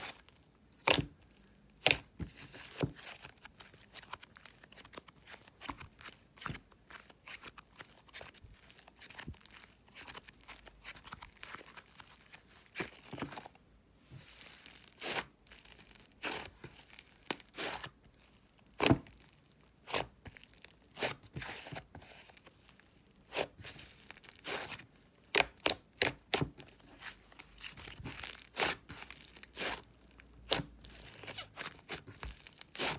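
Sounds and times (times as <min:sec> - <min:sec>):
slime squishing with sticky crackling: 0:00.0 - 0:32.9.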